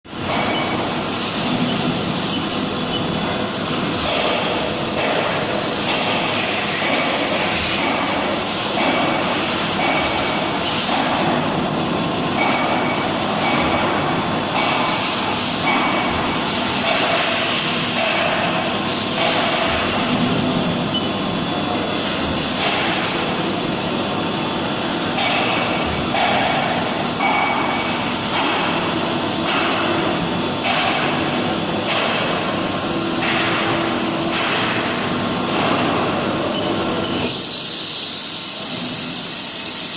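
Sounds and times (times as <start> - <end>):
milling machine cutting steel: 0.1 - 39.9.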